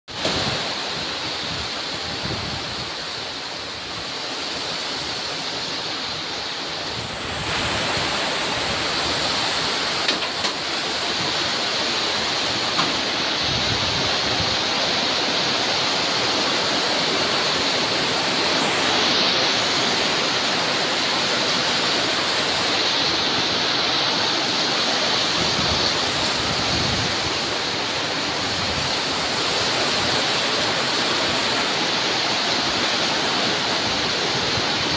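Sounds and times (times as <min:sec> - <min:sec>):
heavy rain on metal roof: 0:00.1 - 0:34.9.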